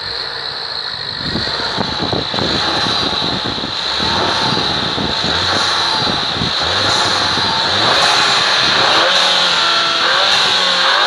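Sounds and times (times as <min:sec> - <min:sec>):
car engine running: 0:00.0 - 0:11.0
steady high whine: 0:00.0 - 0:11.0.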